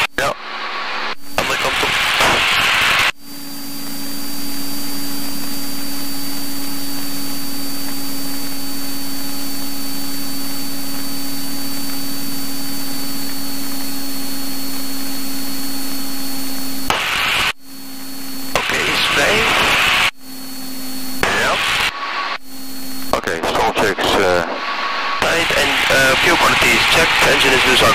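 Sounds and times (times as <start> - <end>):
light aircraft cabin drone: 0.0 - 27.9.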